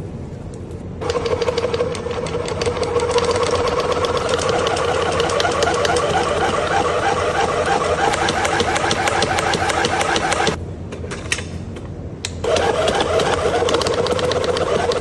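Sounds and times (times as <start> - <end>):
steady hum: 0.0 - 15.0
rapid mechanical clattering: 1.0 - 10.6, 12.4 - 15.0.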